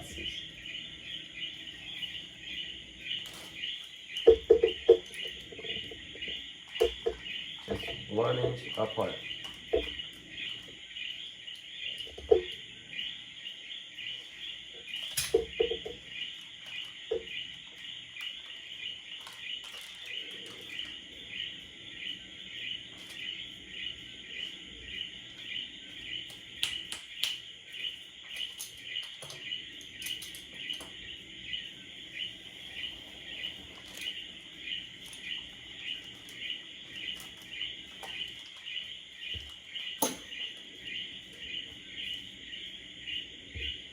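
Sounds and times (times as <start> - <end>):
chorus of chirping calls: 0.0 - 43.9.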